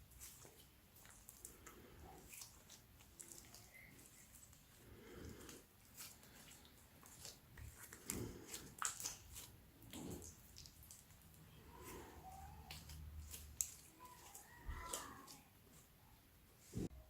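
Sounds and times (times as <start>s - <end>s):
slime squishing: 0.0s - 16.9s.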